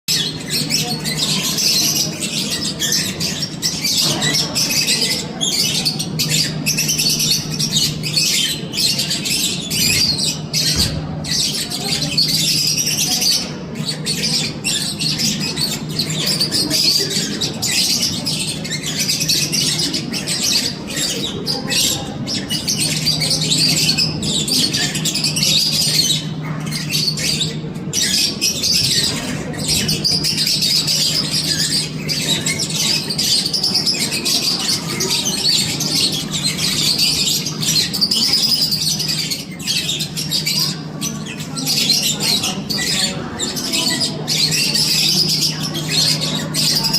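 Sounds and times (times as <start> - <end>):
caged birds squawking: 0.1 - 46.9.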